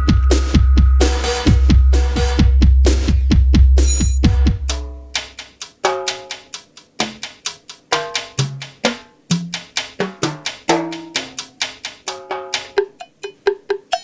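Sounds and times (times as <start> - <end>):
drum and percussion hits: 0.0 - 14.0.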